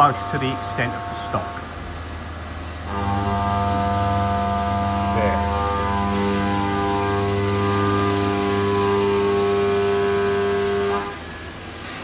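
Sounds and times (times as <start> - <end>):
milling machine cutting aluminium: 0.0 - 1.7, 2.8 - 12.0.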